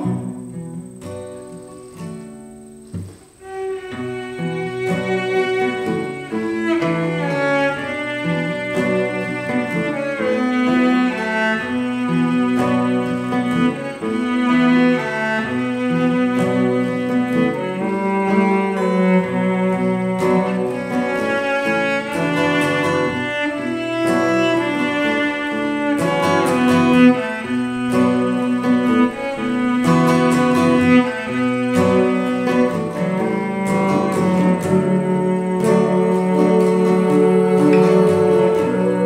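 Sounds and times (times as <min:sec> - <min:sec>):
cello melody: 0:00.0 - 0:39.0
strummed acoustic guitars: 0:00.0 - 0:39.0.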